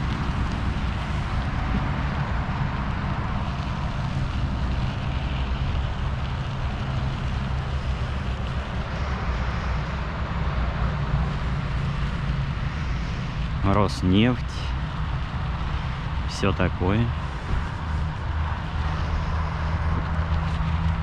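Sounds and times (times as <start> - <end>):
bicycle tyres rolling on road: 0.0 - 21.0
wind buffeting microphone: 0.0 - 21.0.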